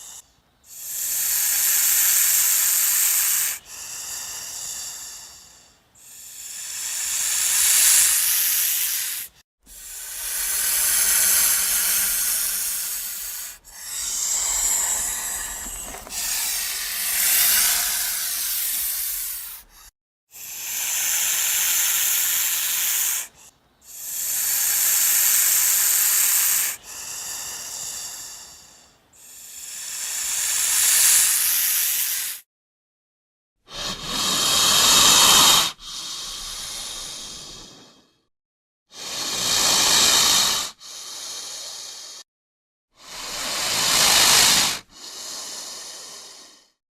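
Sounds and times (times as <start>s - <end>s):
snake hissing: 0.0s - 32.4s, 33.7s - 38.2s, 38.9s - 42.3s, 43.0s - 46.8s.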